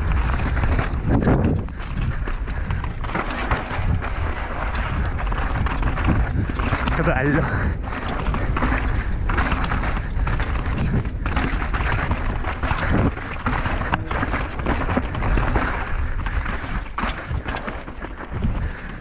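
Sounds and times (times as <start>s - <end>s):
bike rattling over bumps: 0.0s - 19.0s
tyres crunching over stones: 0.0s - 19.0s
wind noise on microphone: 0.0s - 19.0s.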